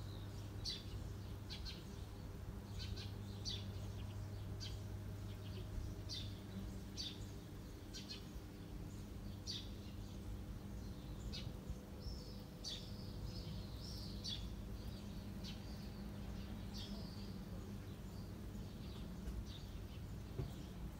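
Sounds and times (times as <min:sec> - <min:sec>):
low background hum: 0:00.0 - 0:20.9
small birds chirping: 0:00.0 - 0:20.9.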